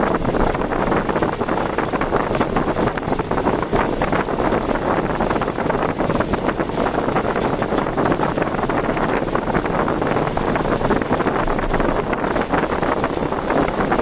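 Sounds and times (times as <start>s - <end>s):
car road noise: 0.0s - 14.0s
wind rushing: 0.0s - 14.0s.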